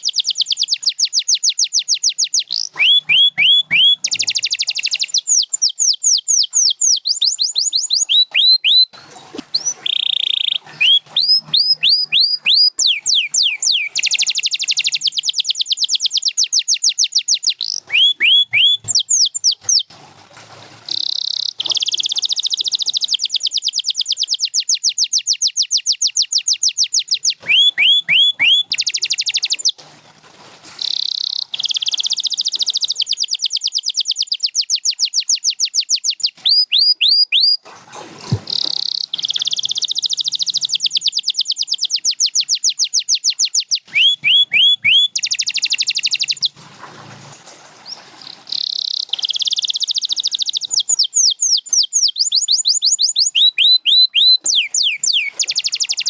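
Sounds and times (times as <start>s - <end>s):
canary singing: 0.0s - 19.9s, 20.9s - 29.8s, 30.8s - 37.6s, 38.5s - 46.6s, 47.8s - 56.0s.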